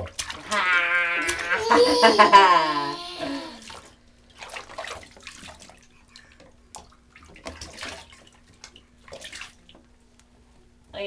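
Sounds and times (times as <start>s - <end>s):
bathwater splashing: 0.0s - 9.9s.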